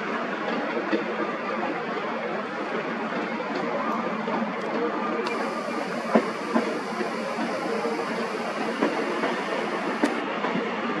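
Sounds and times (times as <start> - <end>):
subway train rumbling on tracks: 0.0 - 11.0.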